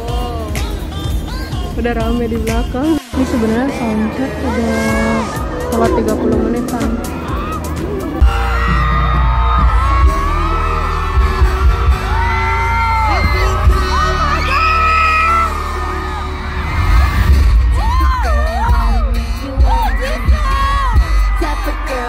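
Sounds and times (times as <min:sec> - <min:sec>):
pop song with singing over pa: 0:00.0 - 0:22.0.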